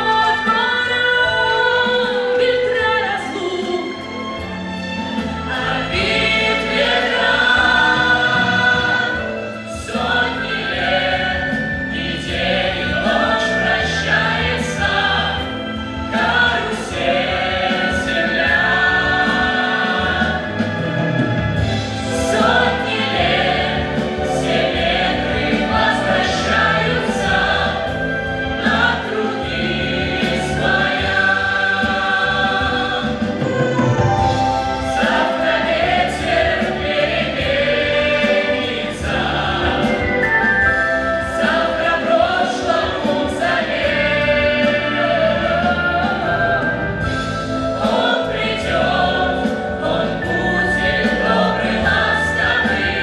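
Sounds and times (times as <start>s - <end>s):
backing music: 0.0s - 53.0s
mixed choir singing: 0.0s - 53.0s.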